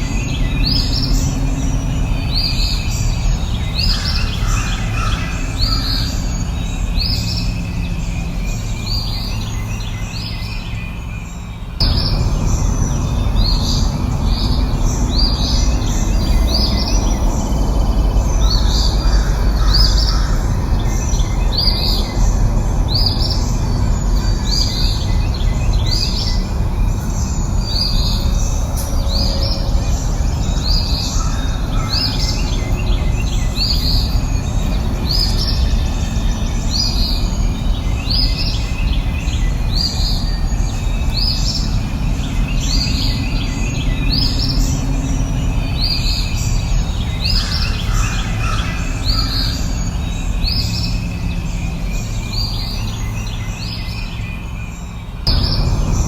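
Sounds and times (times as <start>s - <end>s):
songbird high chirp: 0.0s - 56.0s.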